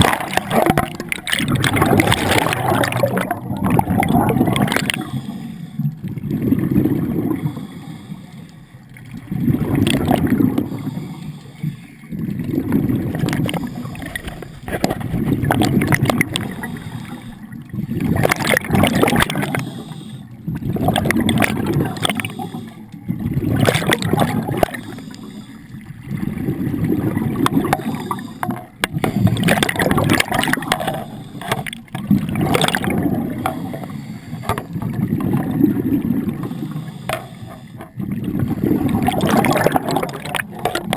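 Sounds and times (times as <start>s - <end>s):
underwater regulator bubbling: 0.0s - 8.1s, 9.0s - 40.9s.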